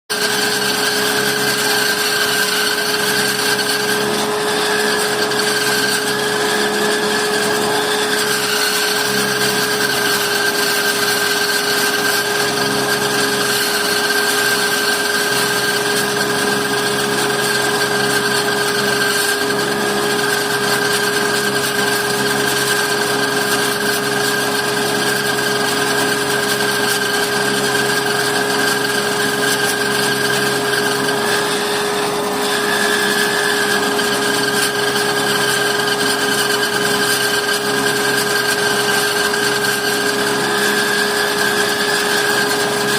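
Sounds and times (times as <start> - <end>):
power tool motor whine: 0.1 - 42.9
woodworking noise: 0.1 - 42.9.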